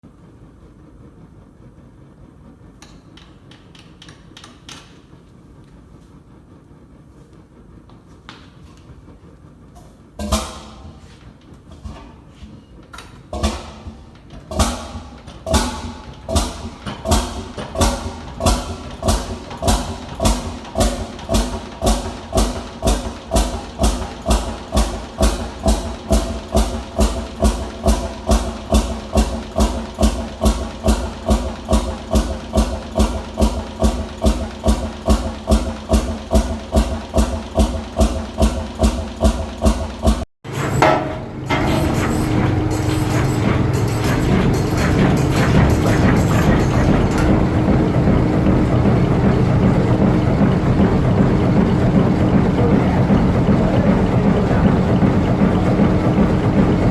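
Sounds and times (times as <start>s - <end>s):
steady engine sound: 0.0s - 56.9s
old engine firing steadily: 10.2s - 56.9s.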